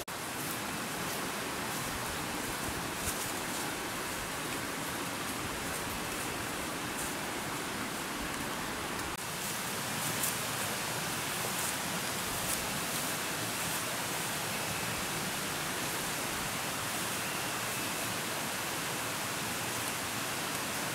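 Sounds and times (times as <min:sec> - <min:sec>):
forest ambience hiss: 0:00.0 - 0:20.9.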